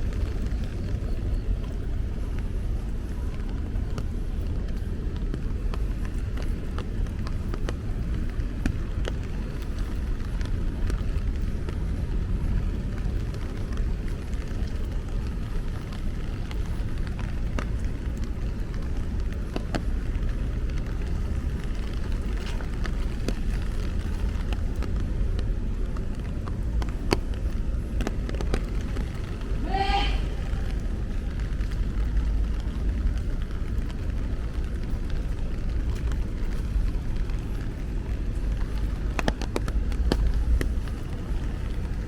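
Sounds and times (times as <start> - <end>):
traffic rumble in rain: 0.0 - 42.0.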